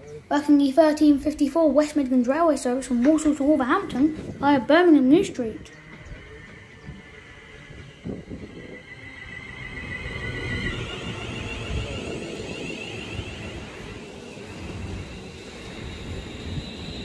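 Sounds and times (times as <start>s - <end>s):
electric train whine: 0.0s - 17.0s
wheels rumbling on rails: 0.0s - 17.0s.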